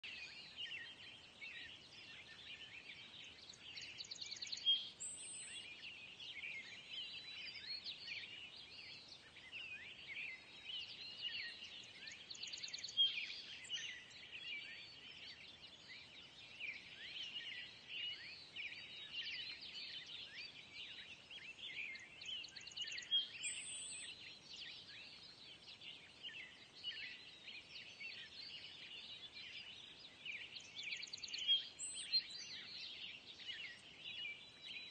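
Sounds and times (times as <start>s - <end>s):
many birds chirping: 0.0s - 34.9s.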